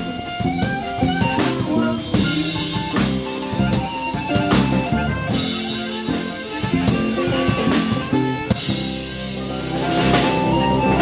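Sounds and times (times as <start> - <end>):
drum kit beat: 0.0 - 11.0
live band playing: 0.0 - 11.0.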